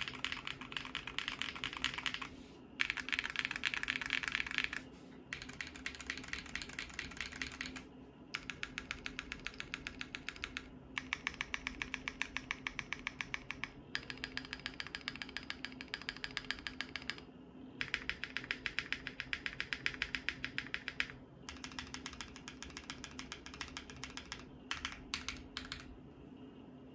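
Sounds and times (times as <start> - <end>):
mechanical keyboard typing: 0.0 - 25.9.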